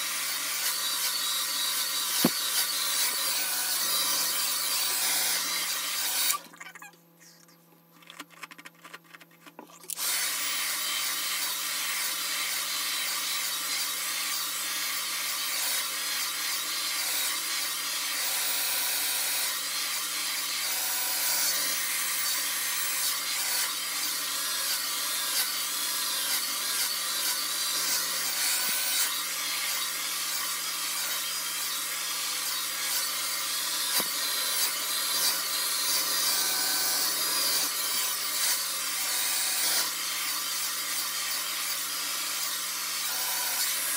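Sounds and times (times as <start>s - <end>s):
hair dryer blowing: 0.0s - 6.4s, 9.9s - 18.8s, 19.4s - 43.9s.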